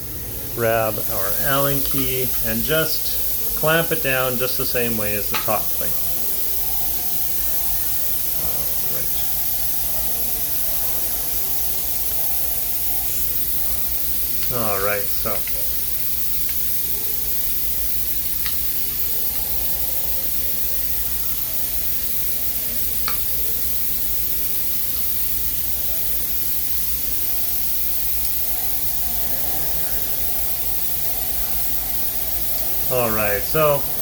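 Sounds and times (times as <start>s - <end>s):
machine shop hiss and hum: 0.0s - 34.0s.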